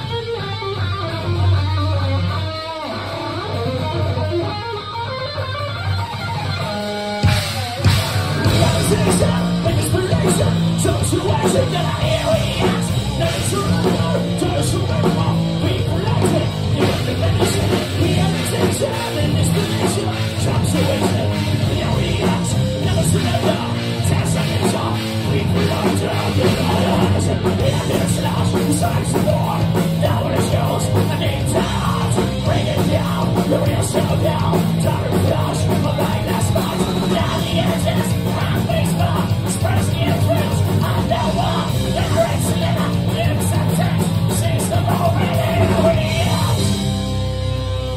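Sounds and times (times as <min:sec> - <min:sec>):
live thrash metal band: 0:00.0 - 0:47.9.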